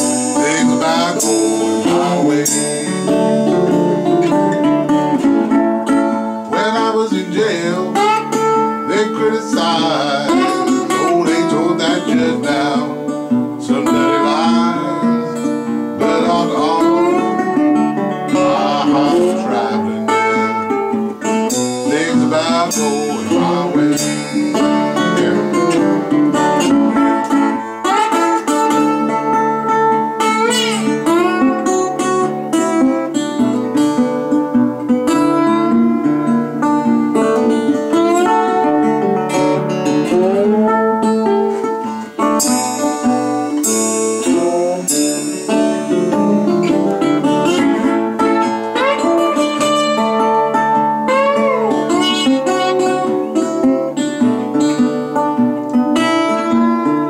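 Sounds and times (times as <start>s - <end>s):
blues band playing: 0.0s - 57.0s
lead guitar bending notes: 0.0s - 57.0s.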